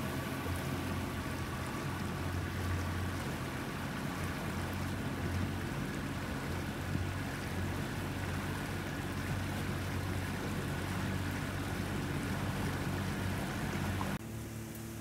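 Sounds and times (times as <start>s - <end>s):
outboard motor droning: 0.0s - 15.0s
water rushing along hull: 0.0s - 15.0s.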